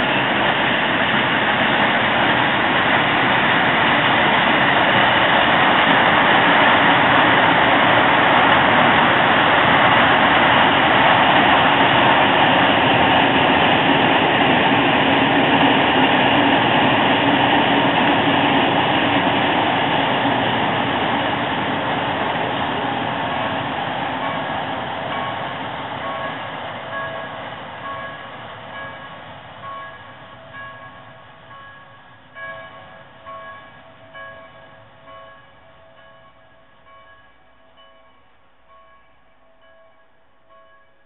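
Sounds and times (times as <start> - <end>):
train wagons rumbling on rails: 0.0 - 41.0.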